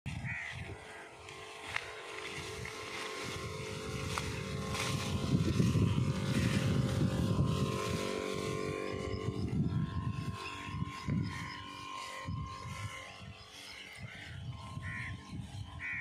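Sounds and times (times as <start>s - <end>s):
fluctuating low rumble: 0.1s - 16.0s
sprayer pump motor humming: 0.1s - 16.0s.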